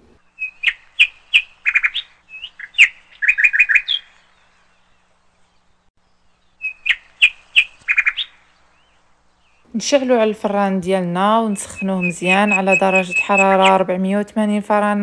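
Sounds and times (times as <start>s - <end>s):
bird chirping: 0.0s - 14.2s.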